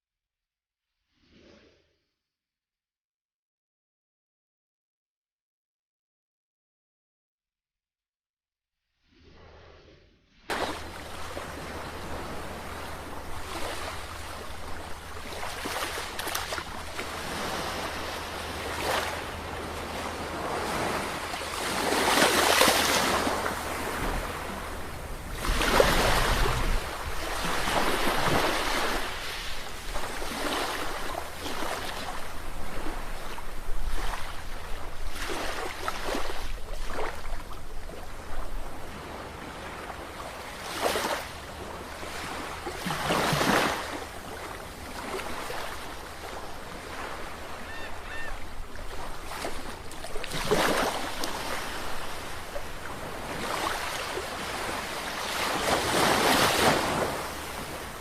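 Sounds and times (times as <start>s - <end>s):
sea waves breaking: 10.5s - 58.0s.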